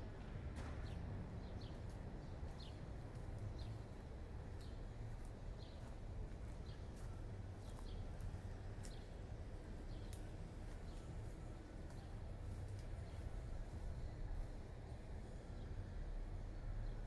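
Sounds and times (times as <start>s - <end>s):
low city hum: 0.0s - 17.0s
small birds chirping: 0.8s - 17.0s.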